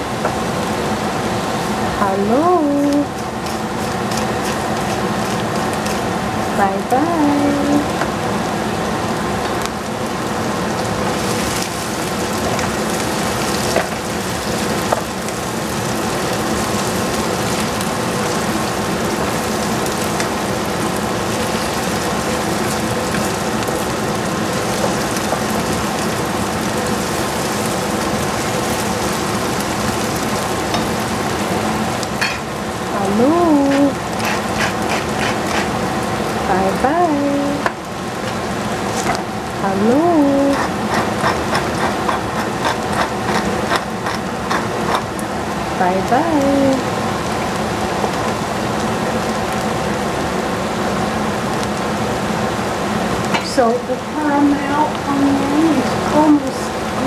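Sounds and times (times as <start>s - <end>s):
onions sizzling in frying pan: 0.0s - 57.0s.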